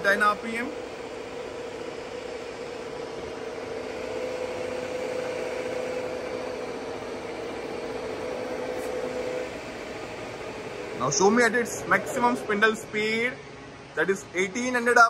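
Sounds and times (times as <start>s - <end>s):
milling machine spindle humming: 0.0s - 15.0s.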